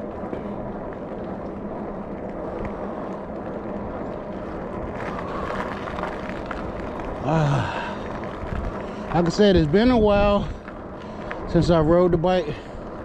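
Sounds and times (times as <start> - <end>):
road noise: 0.0 - 13.0
wind over microphone: 0.0 - 13.0.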